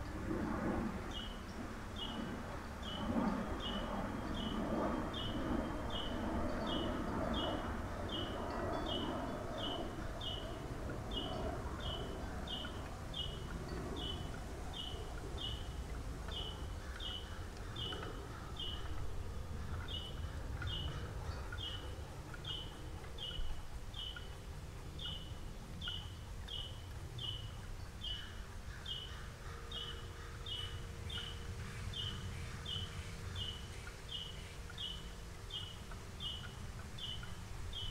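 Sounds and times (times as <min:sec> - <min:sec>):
low background rumble: 0:00.0 - 0:37.9.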